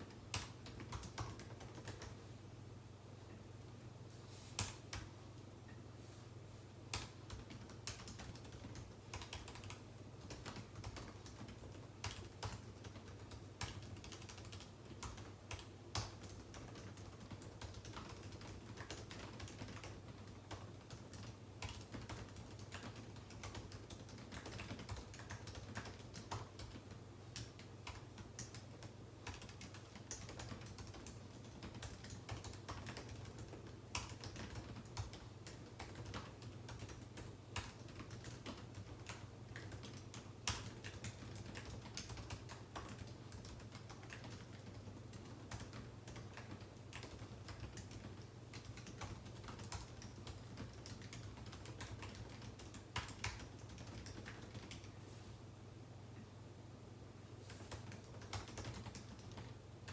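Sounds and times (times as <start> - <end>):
typing on computer keyboard: 0.0 - 2.2, 6.9 - 55.0, 57.6 - 59.9.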